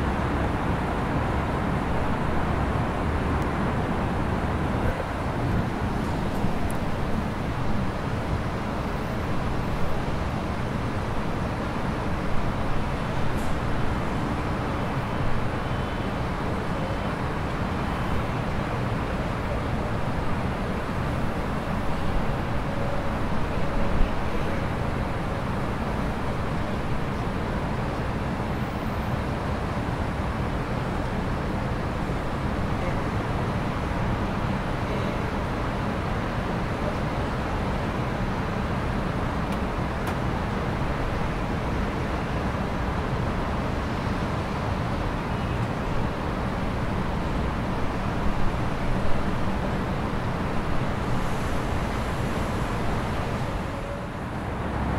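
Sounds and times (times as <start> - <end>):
city traffic rumble: 0.0 - 54.9.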